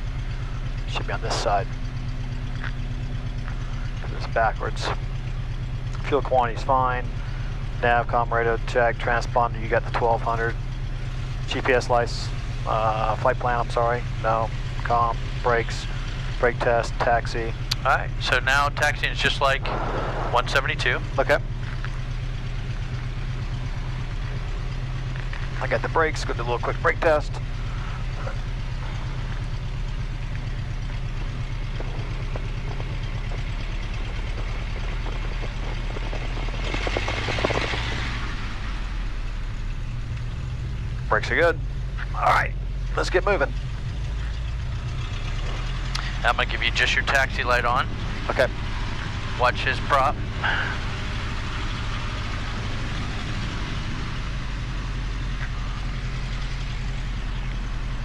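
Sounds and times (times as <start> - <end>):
airplane engine idling: 0.0 - 58.0.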